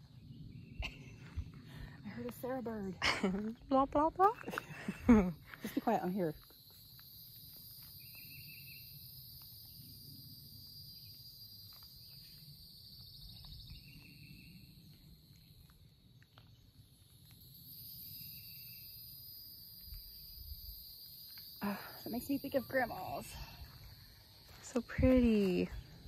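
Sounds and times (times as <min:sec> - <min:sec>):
insect chorus drone: 0:00.0 - 0:26.0.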